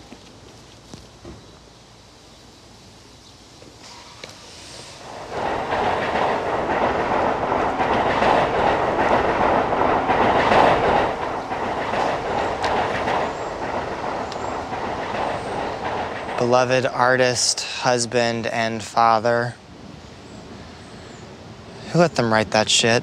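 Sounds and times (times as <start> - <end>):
passenger train passing: 3.7 - 23.0.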